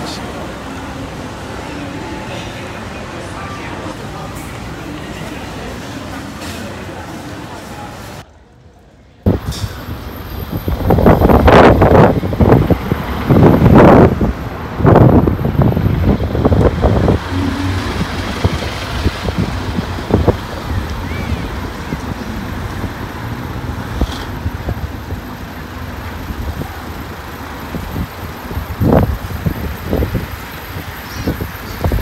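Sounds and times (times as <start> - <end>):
road traffic passing: 0.0 - 8.3, 9.3 - 32.0.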